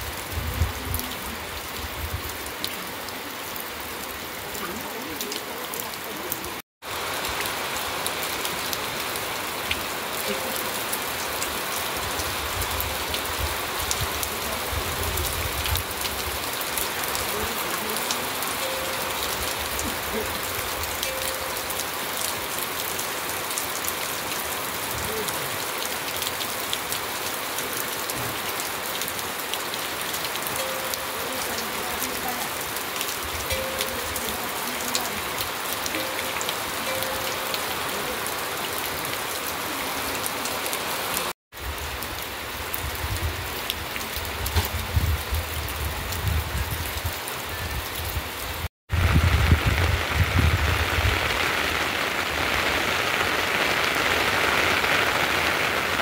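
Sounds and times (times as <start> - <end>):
rain falling on ground and roofs: 0.0 - 56.0
raindrops hitting close by: 0.0 - 56.0.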